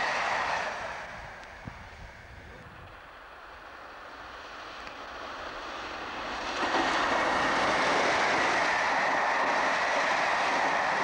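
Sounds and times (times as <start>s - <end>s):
diesel locomotive engine: 0.0s - 11.0s.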